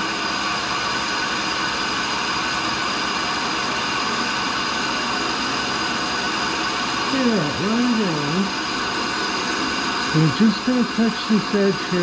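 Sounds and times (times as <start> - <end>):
grinder motor humming and whining: 0.0 - 12.0.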